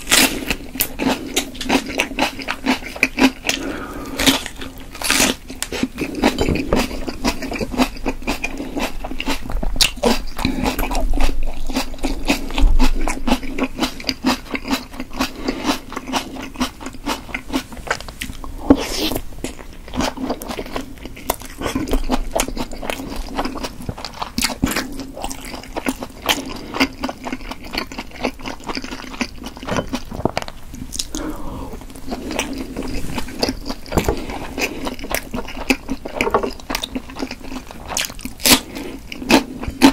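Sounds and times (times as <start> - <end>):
chewing food: 0.0 - 39.9.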